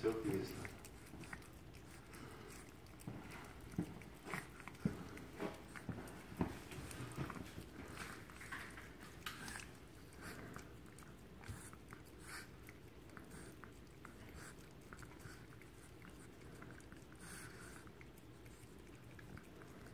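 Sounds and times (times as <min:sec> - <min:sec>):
dogs licking wetly: 0:00.0 - 0:19.9
lip smacks: 0:00.0 - 0:19.9.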